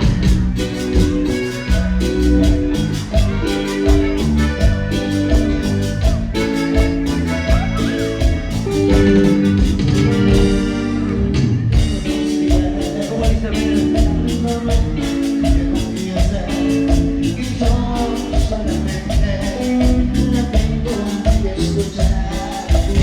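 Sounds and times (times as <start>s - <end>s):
instrumental cumbia music: 0.0s - 23.0s
keyboard organ-like chords: 0.0s - 23.0s.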